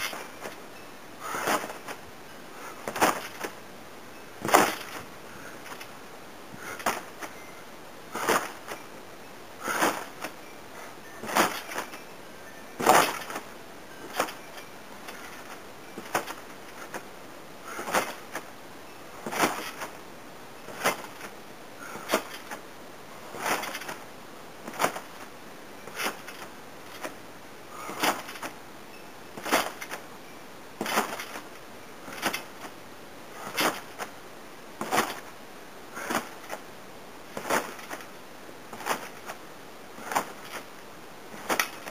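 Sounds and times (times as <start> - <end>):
trampoline springs clanking and creaking: 0.0 - 34.2, 34.8 - 35.3, 35.9 - 39.4, 40.0 - 41.9.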